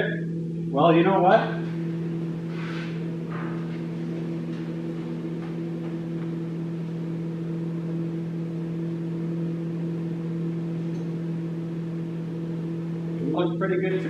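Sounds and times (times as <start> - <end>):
electrical machine hum: 0.0 - 14.0.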